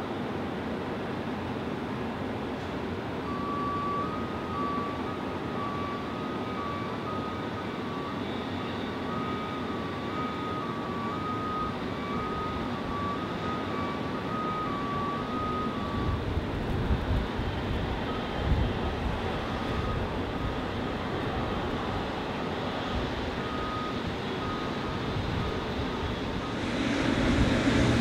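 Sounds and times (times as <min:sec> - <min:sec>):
jet engine noise: 0:00.0 - 0:28.0
reversing beepers: 0:03.1 - 0:28.0.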